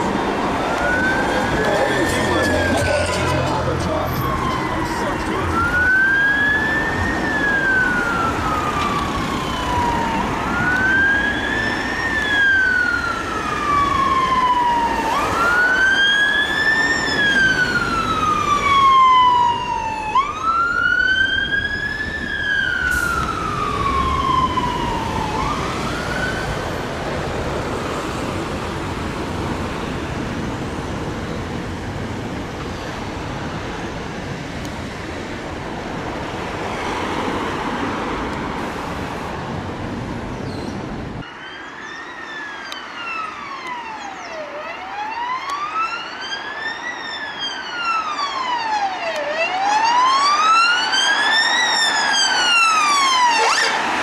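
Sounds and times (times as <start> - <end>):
fire engine siren wailing: 0.0 - 34.5, 41.1 - 54.0
road traffic noise: 0.0 - 54.0.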